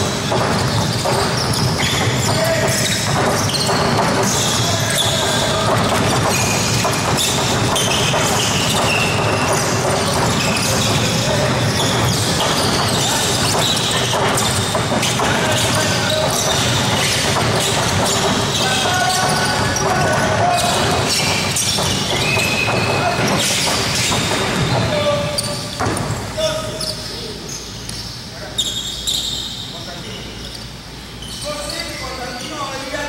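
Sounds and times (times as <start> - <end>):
basketballs bouncing: 0.0 - 28.2
sneaker squeaks: 0.0 - 33.0
players' voices: 0.1 - 29.0.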